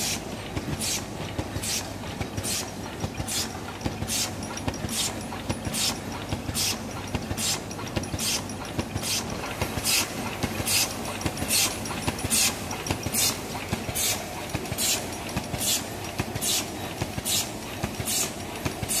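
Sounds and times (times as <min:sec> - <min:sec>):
machine clattering: 0:00.0 - 0:19.0.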